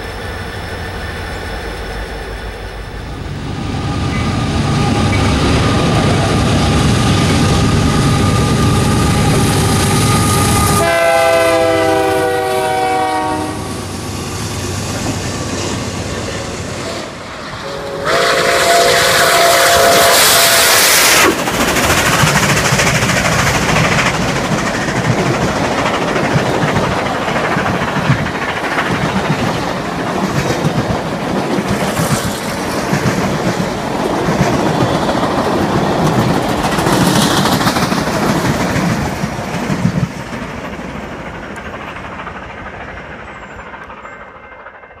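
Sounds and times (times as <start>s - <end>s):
steam train passing: 0.0s - 45.0s.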